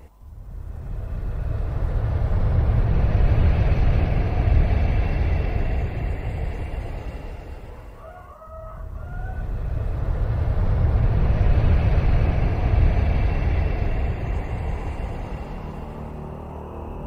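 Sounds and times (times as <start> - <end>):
low rumble of thunder: 0.3 - 7.9, 8.8 - 17.0.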